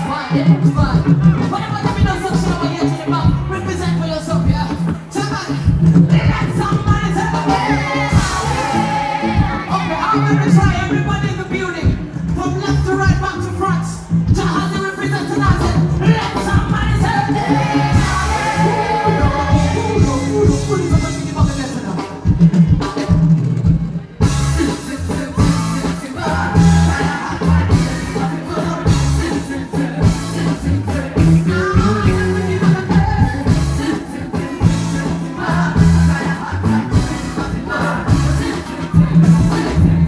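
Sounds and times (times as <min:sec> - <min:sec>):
singing over drum beat: 0:00.0 - 0:40.0.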